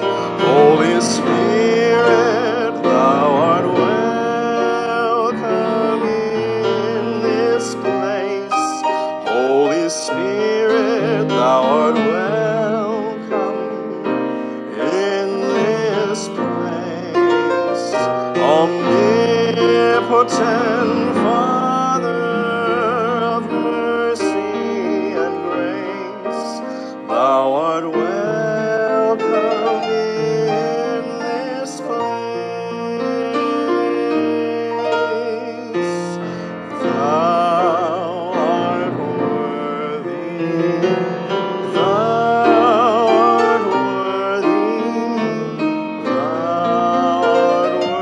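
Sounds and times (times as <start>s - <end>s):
grand piano playing slow piece: 0.0s - 48.0s.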